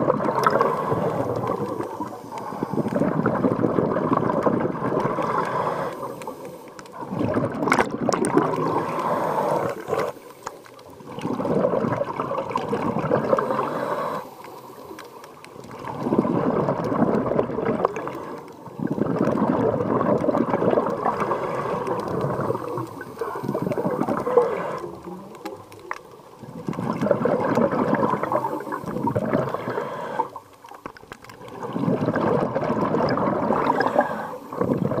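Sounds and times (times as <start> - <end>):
exhaled bubbles gurgling underwater: 0.0 - 35.0.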